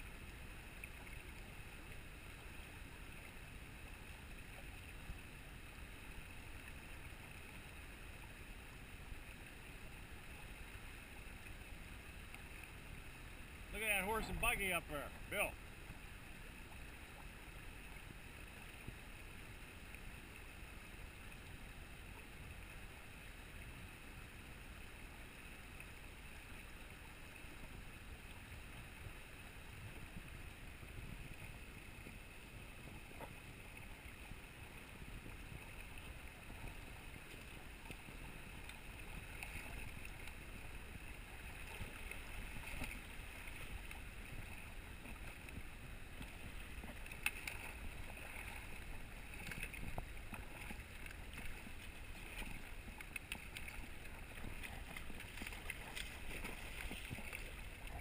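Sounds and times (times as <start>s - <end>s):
river flowing over rocks: 0.0s - 58.0s.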